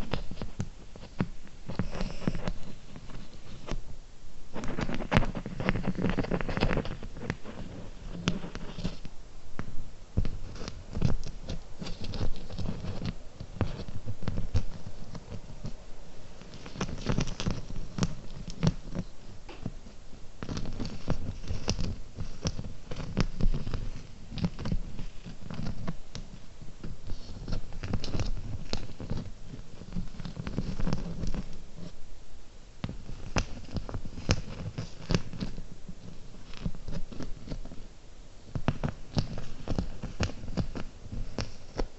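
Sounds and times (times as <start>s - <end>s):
small scratching sounds: 0.0s - 32.1s, 32.8s - 41.9s.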